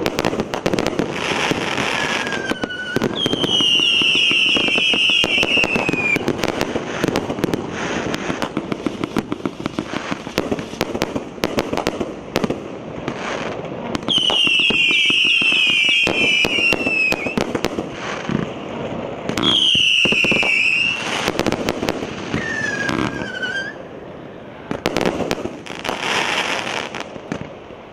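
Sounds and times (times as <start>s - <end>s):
fireworks whistling: 0.0s - 27.5s
fireworks cracking and popping: 0.0s - 27.9s.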